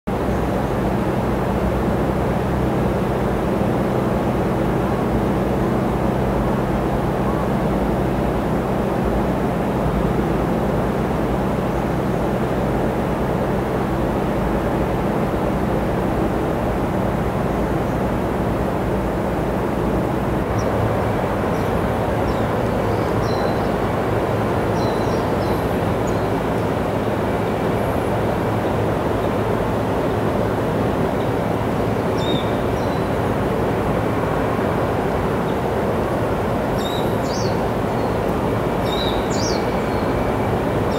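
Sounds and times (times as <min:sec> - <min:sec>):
air conditioners low hum: 0:00.1 - 0:40.9
fan air rushing: 0:00.1 - 0:40.9.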